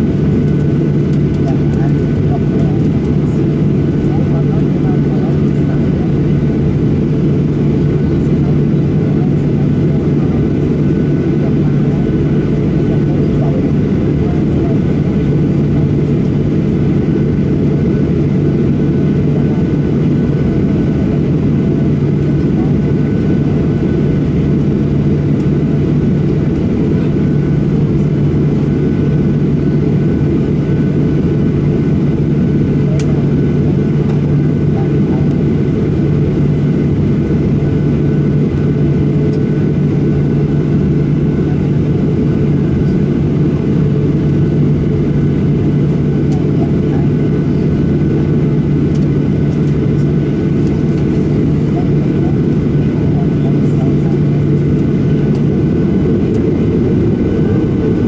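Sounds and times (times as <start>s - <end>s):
aircraft cabin drone: 0.0s - 58.0s.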